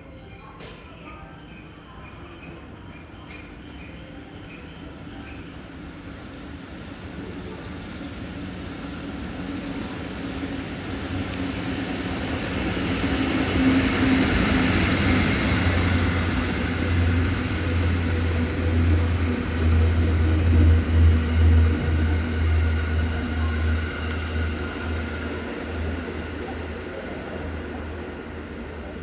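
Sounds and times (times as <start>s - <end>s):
deep rumble of train cars: 1.2s - 29.0s
freight train passing: 1.2s - 29.0s.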